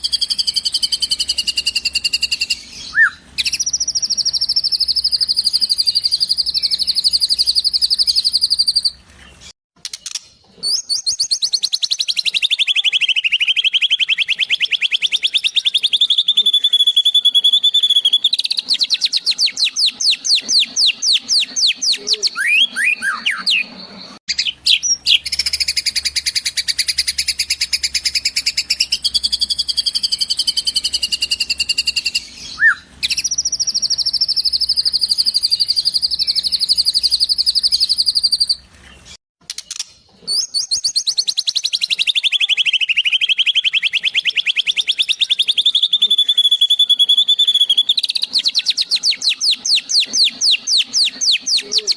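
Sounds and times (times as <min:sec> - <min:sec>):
bird trills and chirps: 0:00.0 - 0:51.9.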